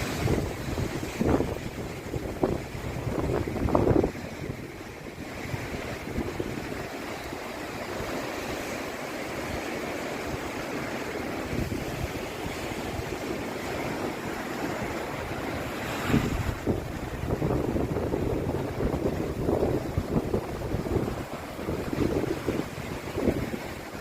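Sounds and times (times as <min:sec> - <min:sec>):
sea surf washing against coast: 0:00.0 - 0:24.0
wind gusting on microphone: 0:00.0 - 0:24.0.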